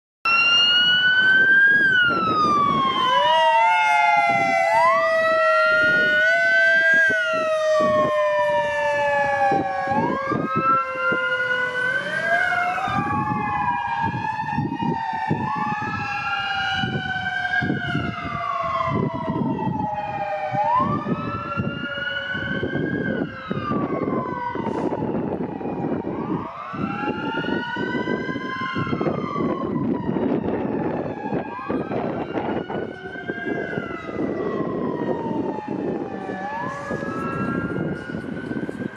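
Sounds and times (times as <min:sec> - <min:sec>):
deep low-frequency siren tone: 0:00.3 - 0:38.9
electronic sirens wailing: 0:00.3 - 0:38.9.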